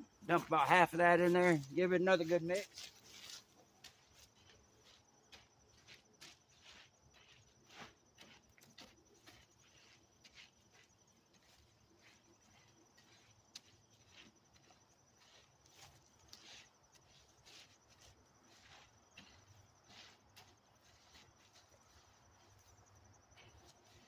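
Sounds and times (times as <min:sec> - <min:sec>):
corn scraping and rustling by hand: 0:00.2 - 0:24.0.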